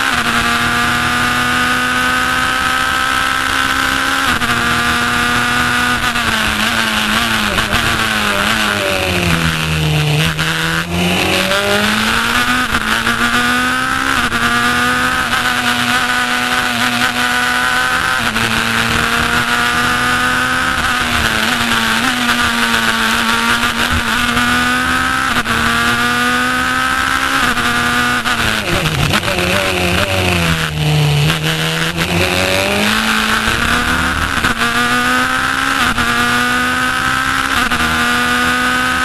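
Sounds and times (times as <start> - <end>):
racing car engine revving: 0.0 - 39.0.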